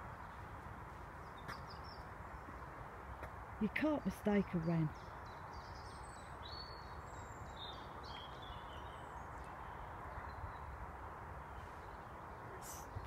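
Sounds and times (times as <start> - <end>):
birds chirping and trilling: 1.2 - 13.0.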